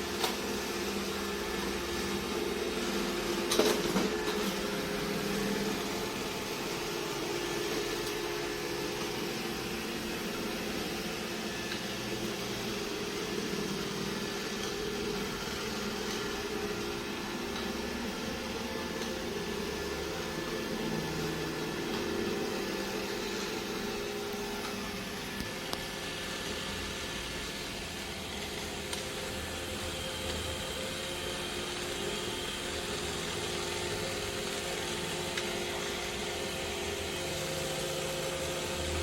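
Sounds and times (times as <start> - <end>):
robot vacuum humming: 0.0 - 39.0.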